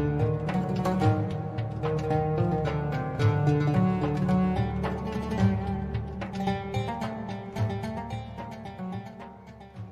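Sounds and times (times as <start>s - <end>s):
pulsing bass line: 0.0s - 9.1s
plucked-string instrumental: 0.0s - 9.9s.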